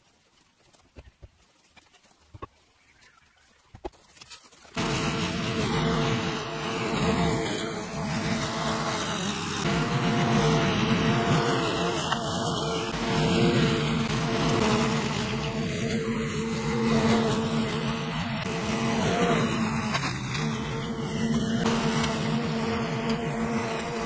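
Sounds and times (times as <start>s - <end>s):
lawn mower engine mowing grass: 0.0s - 24.0s.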